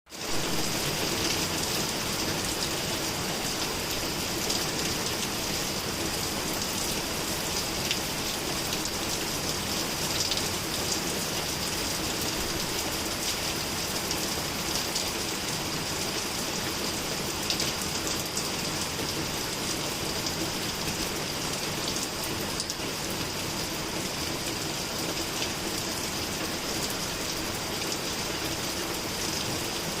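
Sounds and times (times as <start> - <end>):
steady rain falling: 0.1 - 30.0.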